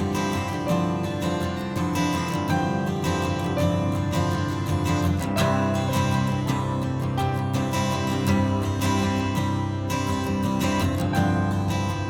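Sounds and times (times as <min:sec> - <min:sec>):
acoustic guitar picking and strumming: 0:00.0 - 0:12.0.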